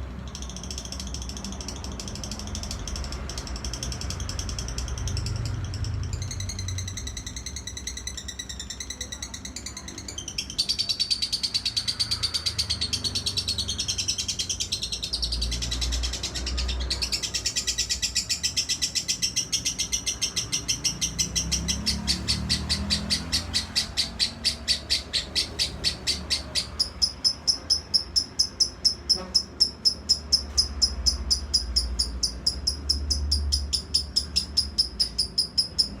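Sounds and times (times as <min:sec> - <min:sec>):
lovebird chattering trill: 0:00.2 - 0:36.0.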